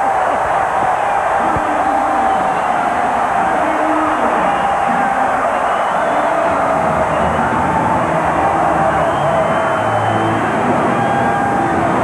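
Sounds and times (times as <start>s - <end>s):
arena crowd cheering: 0.0s - 12.0s.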